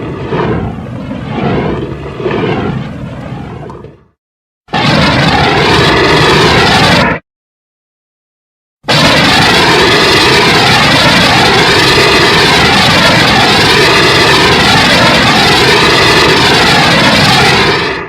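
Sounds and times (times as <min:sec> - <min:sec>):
dense rush with jet-like sweeps: 0:00.0 - 0:07.2, 0:08.9 - 0:18.0.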